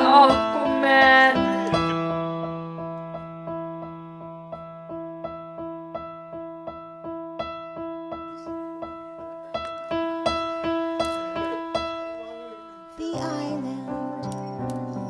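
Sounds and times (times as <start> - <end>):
piano-style keyboard notes: 0.0 - 15.0.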